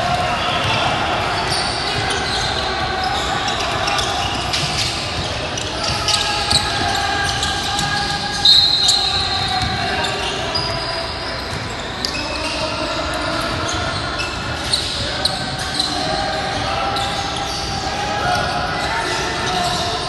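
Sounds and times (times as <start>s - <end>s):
sneakers squeaking: 0.0s - 20.0s
voices echoing in a hall: 0.0s - 20.0s.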